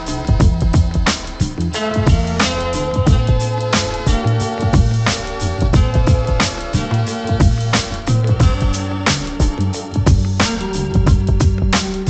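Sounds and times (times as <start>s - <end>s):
music with steady drum beat: 0.0s - 12.0s.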